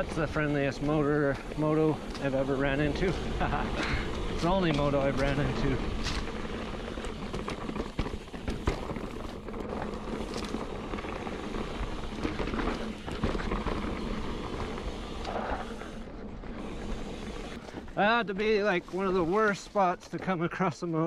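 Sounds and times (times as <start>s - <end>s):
tyre and wind rush: 0.0s - 20.0s
bike rattling over bumps: 0.0s - 21.0s.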